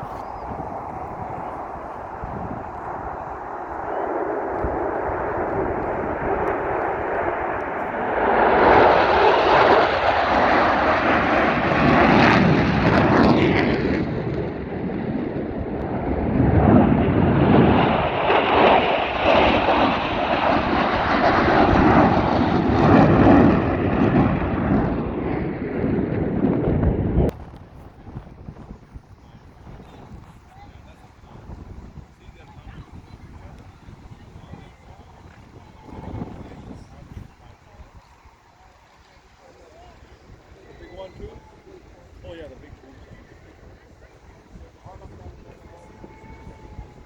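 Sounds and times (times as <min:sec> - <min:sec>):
aircraft engine flying past: 0:00.0 - 0:47.0.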